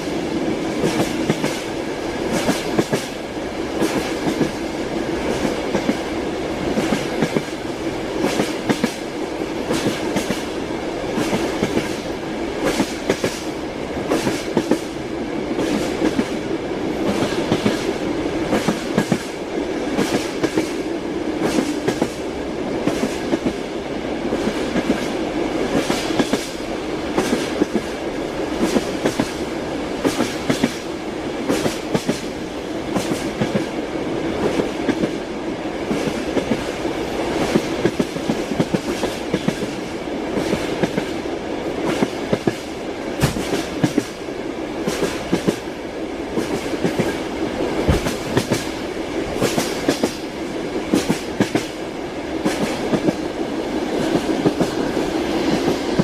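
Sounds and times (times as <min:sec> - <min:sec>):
train wheels clickety-clack: 0:00.0 - 0:56.0.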